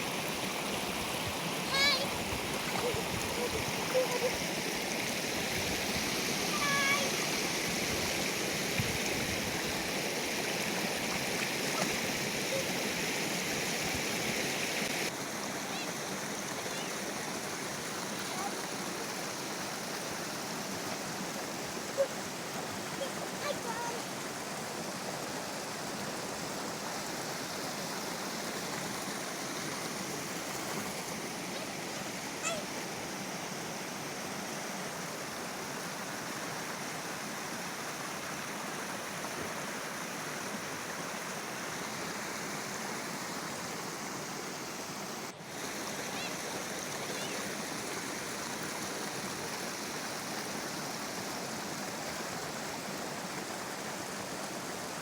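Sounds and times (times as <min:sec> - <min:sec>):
river water babbling: 0:00.0 - 0:55.0.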